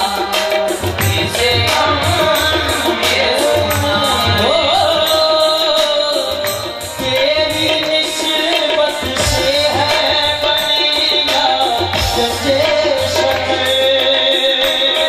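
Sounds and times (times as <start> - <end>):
hand drum beat: 0.0 - 15.0
harmonium held notes: 0.0 - 15.0
person singing: 0.0 - 15.0.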